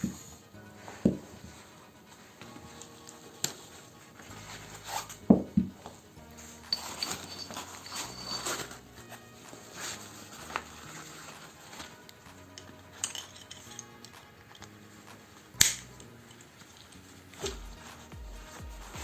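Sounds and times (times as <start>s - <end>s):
quiet background music: 0.0s - 19.0s.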